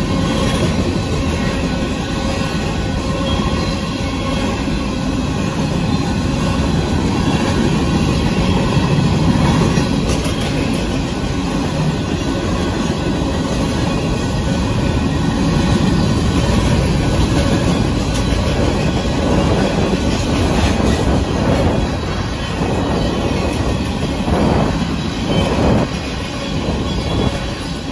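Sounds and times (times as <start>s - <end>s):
freight train rumbling past: 0.0s - 27.9s.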